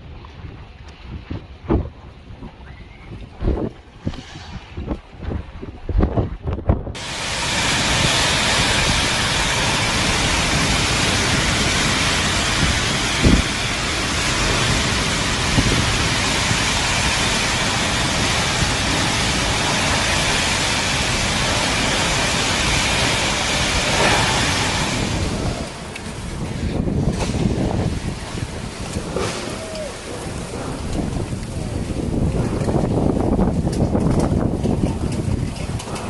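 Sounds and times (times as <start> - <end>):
gusting wind: 0.0 - 36.0
heavy rain: 7.0 - 36.0.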